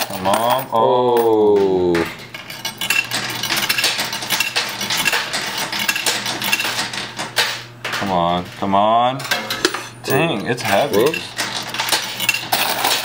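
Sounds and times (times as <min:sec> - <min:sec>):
coins clinking and clattering: 0:00.0 - 0:13.0
steady low hum: 0:00.0 - 0:13.0.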